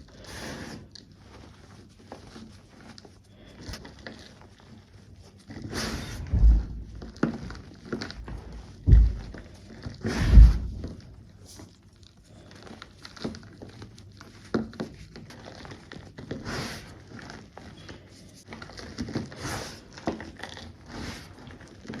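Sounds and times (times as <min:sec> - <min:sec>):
powder squeaking and crunching: 0:00.0 - 0:22.0.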